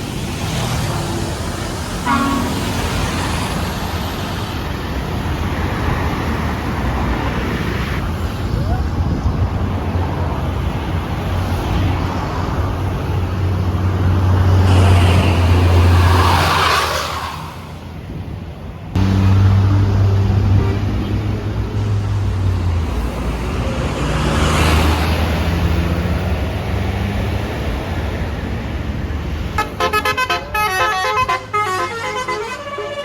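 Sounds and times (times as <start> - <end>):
buses driving past: 0.0 - 33.0
road noise rush: 0.0 - 33.0.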